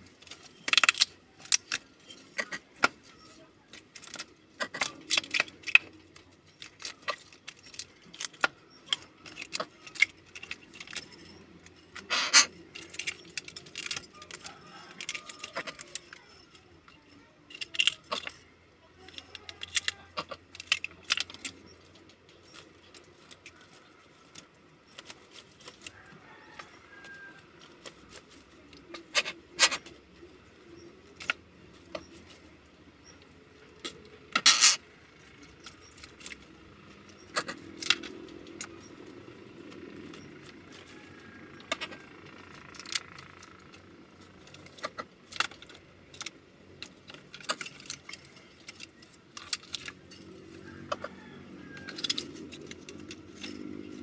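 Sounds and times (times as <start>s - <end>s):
beak and shells clattering on wood: 0.0s - 54.0s.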